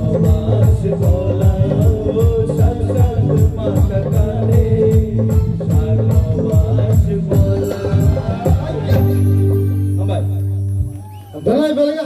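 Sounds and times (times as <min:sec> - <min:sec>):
live band music through speakers: 0:00.0 - 0:12.0.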